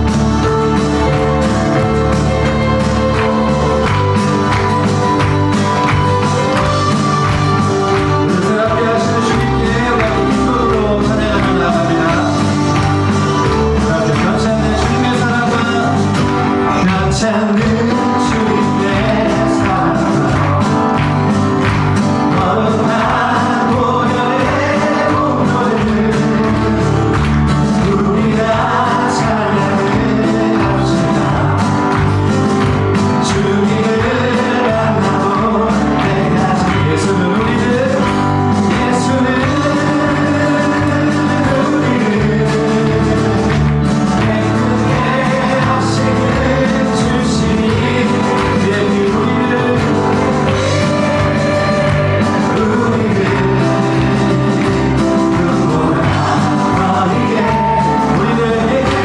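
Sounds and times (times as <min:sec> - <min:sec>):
band accompaniment: 0:00.0 - 0:59.0
person singing: 0:00.0 - 0:59.0.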